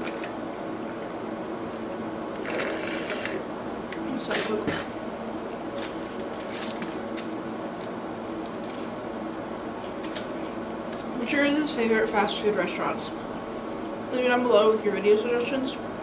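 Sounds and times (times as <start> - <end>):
air-conditioner hum: 0.0 - 16.0.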